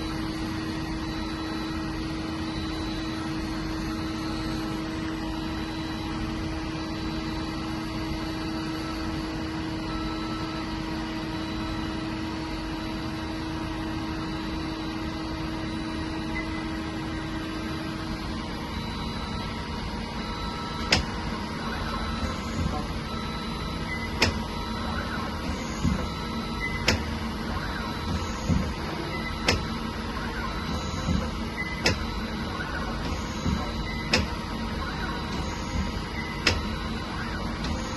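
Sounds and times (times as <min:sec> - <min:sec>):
lathe humming with steady tones: 0:00.0 - 0:37.9.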